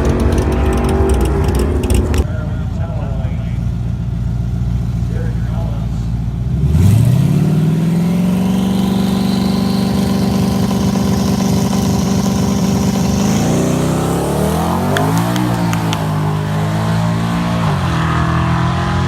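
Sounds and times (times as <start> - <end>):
car engine under load: 0.0 - 19.0.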